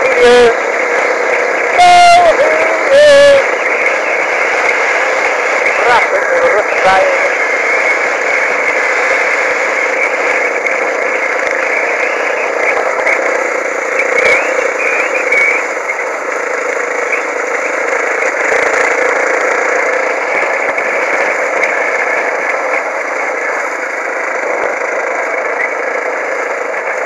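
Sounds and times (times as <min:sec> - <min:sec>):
motorcycle engine droning: 0:00.0 - 0:27.0.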